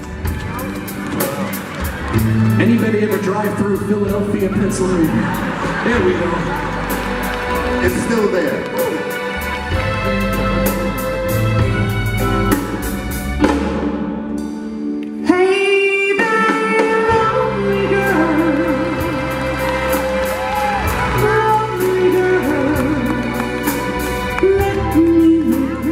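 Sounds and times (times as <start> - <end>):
steady bass: 0.0 - 13.8, 17.1 - 25.9.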